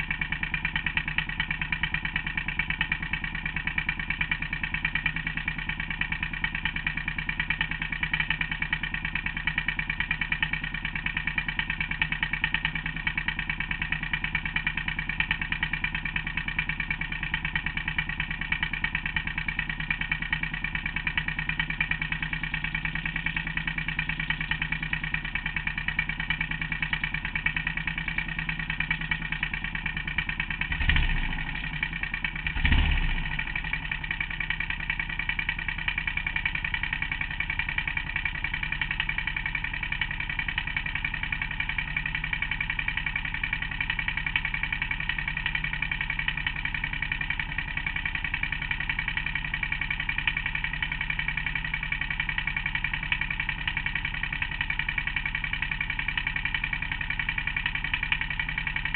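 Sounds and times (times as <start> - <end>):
motorcycle engine idling: 0.0 - 58.9.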